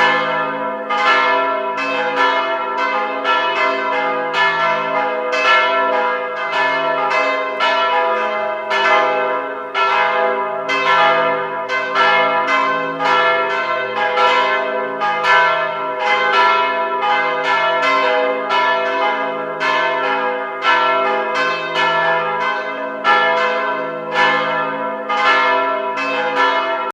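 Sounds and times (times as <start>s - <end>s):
church bells ringing: 0.0s - 26.9s.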